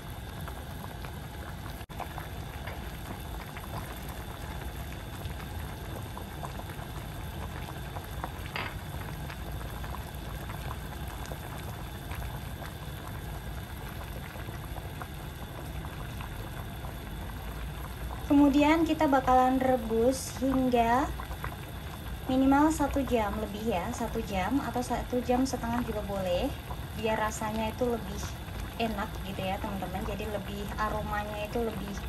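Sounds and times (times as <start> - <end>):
soup boiling and bubbling: 0.0 - 32.0.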